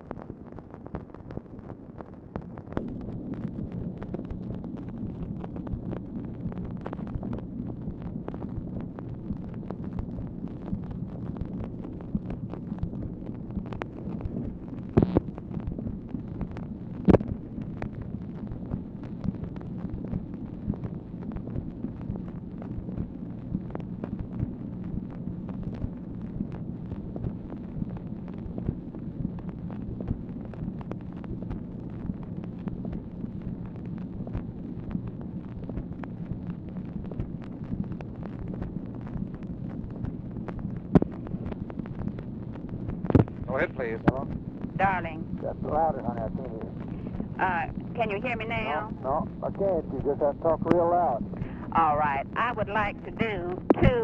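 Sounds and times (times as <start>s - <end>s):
crackle of small clicks: 0.0s - 54.0s
low playback hum: 0.0s - 54.0s.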